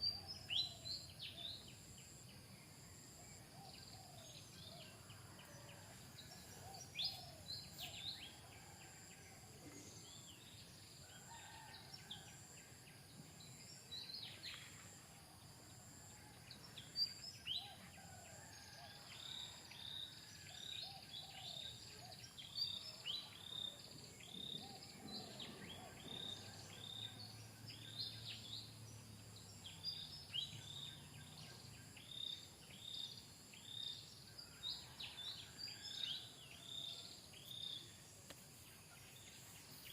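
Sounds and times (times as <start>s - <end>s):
high insect hum: 0.0s - 39.9s.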